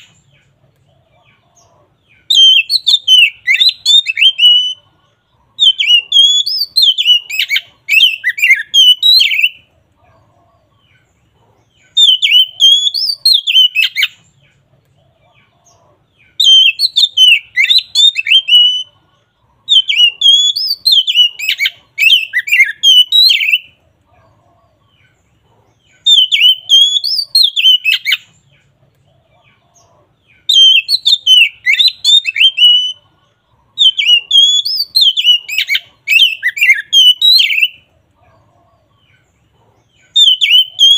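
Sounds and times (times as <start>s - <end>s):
magpie-robin singing: 0.0s - 40.9s.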